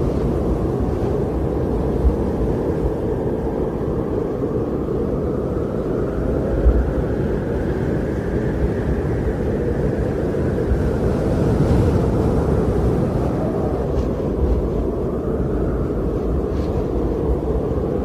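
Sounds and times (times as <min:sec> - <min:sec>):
wind blowing in snowstorm: 0:00.0 - 0:18.0.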